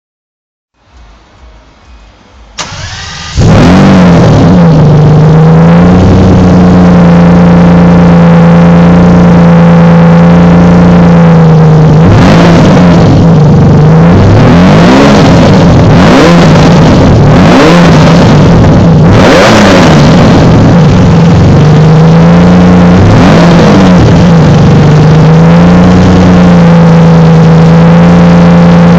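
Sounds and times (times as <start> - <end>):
car engine idling loudly: 0.8 - 28.9
engine throttle blips: 0.8 - 28.9.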